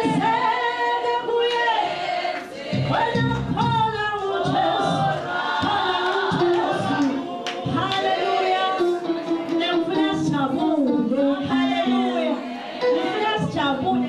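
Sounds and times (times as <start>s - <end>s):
woman singing into a microphone: 0.0s - 2.0s, 2.8s - 14.0s
choir voices: 0.0s - 10.1s, 10.7s - 14.0s.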